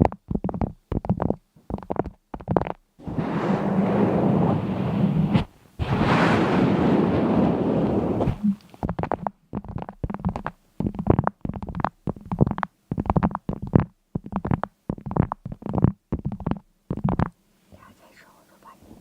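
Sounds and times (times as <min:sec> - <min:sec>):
faint steady hum: 0:02.9 - 0:19.0.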